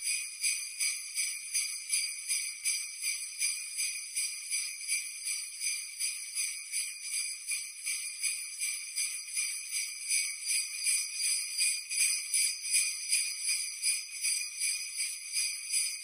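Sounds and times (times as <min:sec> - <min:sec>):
jingle bells shaken: 0:00.0 - 0:16.0.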